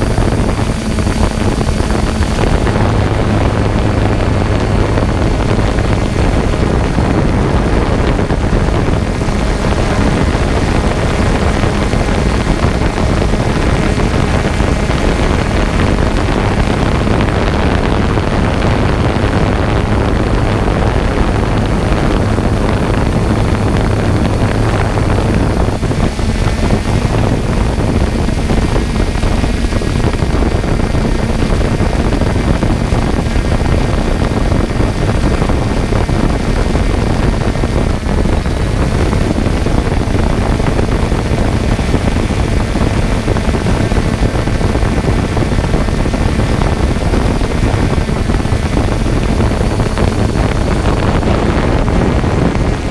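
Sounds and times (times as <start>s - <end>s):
drone propellers buzzing: 0.0s - 52.9s
wind on microphone: 0.0s - 52.9s.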